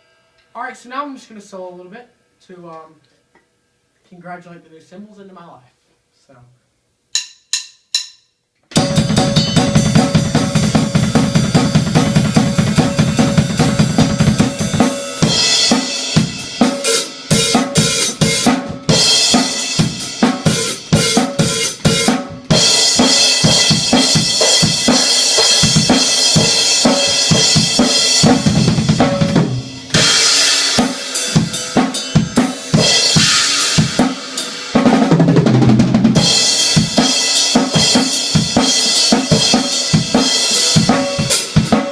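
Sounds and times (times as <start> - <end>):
drum kit playing: 7.1 - 41.9.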